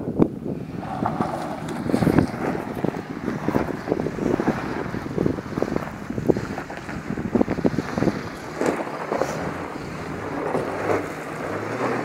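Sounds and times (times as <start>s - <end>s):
diesel engine low hum: 0.0s - 12.0s
wind buffeting microphone: 0.0s - 12.0s.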